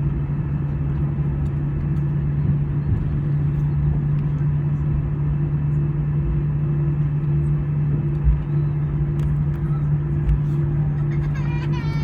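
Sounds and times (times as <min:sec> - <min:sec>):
aircraft cabin engine drone: 0:00.0 - 0:12.0
constant low hum: 0:00.0 - 0:12.0.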